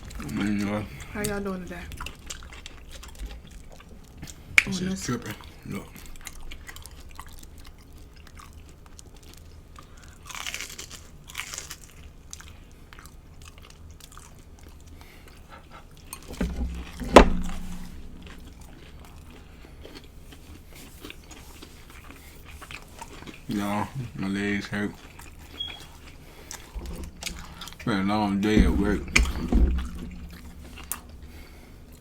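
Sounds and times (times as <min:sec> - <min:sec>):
crunchy chewing: 0:01.8 - 0:32.0.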